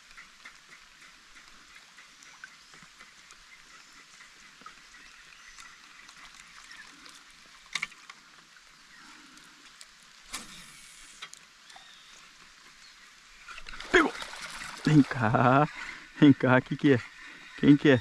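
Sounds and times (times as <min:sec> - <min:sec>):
faint river and forest ambience: 0:00.0 - 0:18.0.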